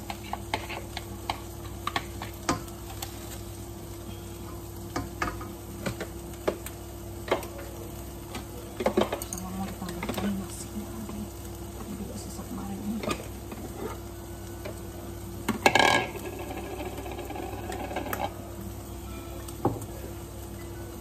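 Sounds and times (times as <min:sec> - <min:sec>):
rice sizzling in a wok: 0:00.0 - 0:21.0
steady hum: 0:00.0 - 0:21.0.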